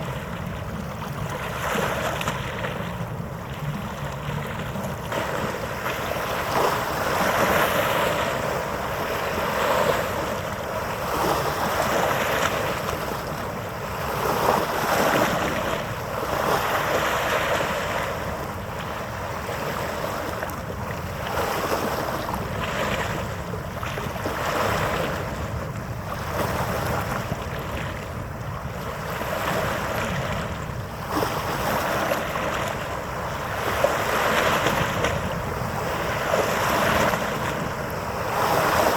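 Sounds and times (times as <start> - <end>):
rushing wind and water hiss: 0.0 - 38.9.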